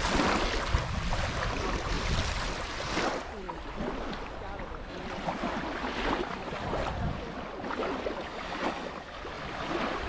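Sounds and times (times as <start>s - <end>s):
waves lapping on sand: 0.0s - 10.0s
wind on microphone: 0.0s - 10.0s.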